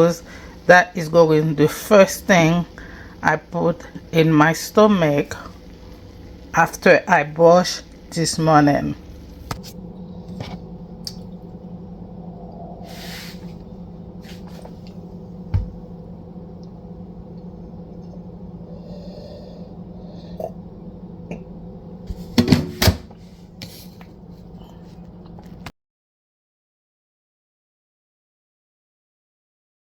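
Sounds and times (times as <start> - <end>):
low steady hum: 0.0 - 25.7.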